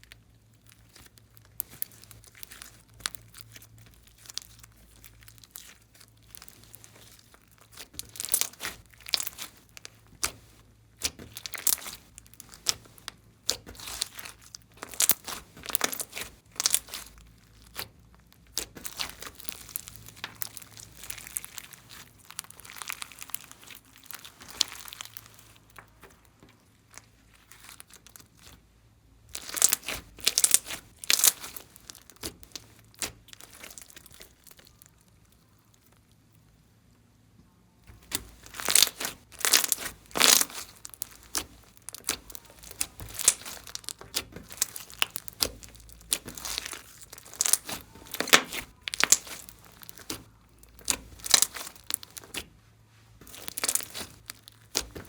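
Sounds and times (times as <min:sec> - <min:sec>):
slime squished by hand crackling: 0:00.0 - 0:28.6, 0:29.3 - 0:36.1, 0:37.9 - 0:52.5, 0:53.2 - 0:55.0.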